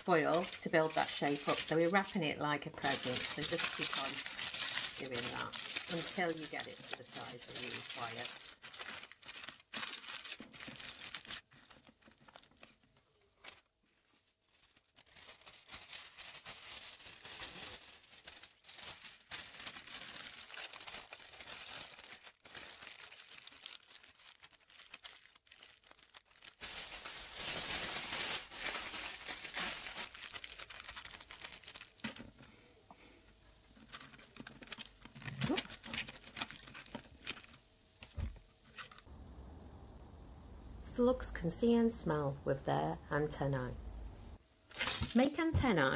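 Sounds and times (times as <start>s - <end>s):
tin foil crinkling: 0.0s - 32.4s, 33.7s - 39.1s, 44.7s - 45.4s.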